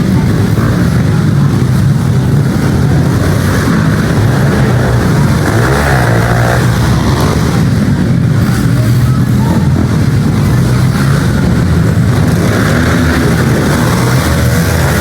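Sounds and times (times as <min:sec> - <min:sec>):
pit bike engines revving: 0:00.0 - 0:15.0.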